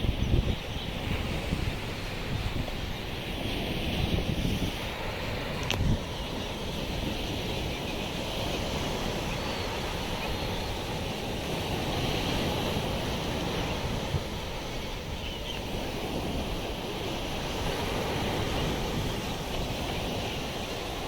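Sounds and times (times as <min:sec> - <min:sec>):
surf washing on shore: 0:00.0 - 0:21.0
wind buffeting microphone: 0:00.0 - 0:21.0.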